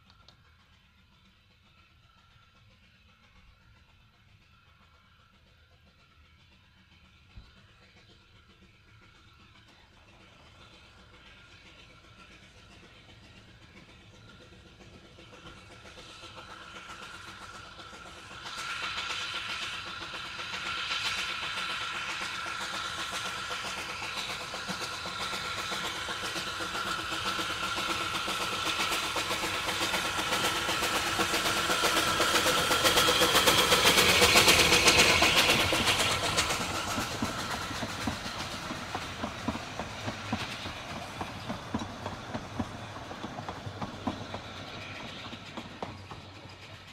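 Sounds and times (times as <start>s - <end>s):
steam locomotive passing: 0.0s - 46.9s
train wheels clicking over rail joints: 0.0s - 46.9s.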